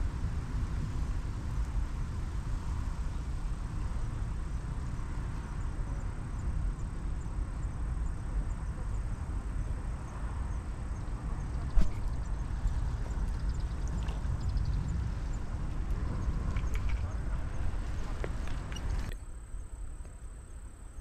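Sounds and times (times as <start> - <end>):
low rumble and hiss: 0.0 - 21.0
insect chirps: 0.9 - 21.0.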